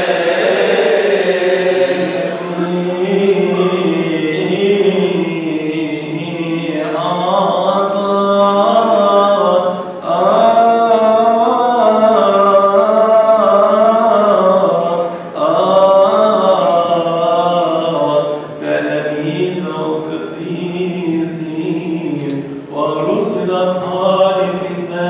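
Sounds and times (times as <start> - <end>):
man chanting through microphone: 0.0 - 25.0.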